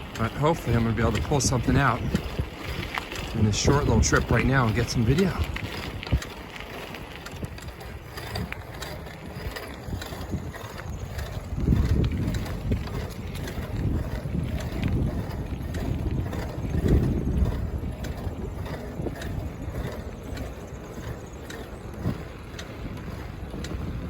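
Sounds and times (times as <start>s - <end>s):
faint ticks: 0.0s - 24.0s
wind buffeting microphone: 0.0s - 24.0s.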